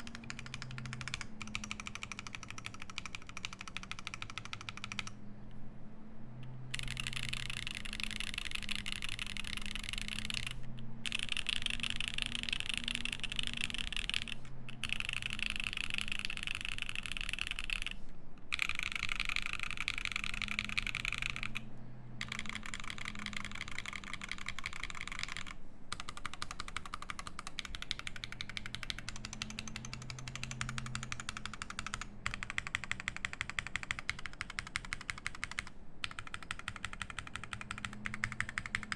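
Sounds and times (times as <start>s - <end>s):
fast typing on mechanical keyboard: 0.0s - 5.2s, 6.7s - 38.9s.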